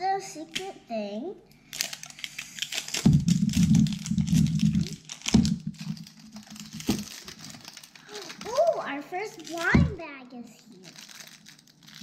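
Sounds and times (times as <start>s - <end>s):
plastic wrapping crinkling: 1.6s - 12.0s.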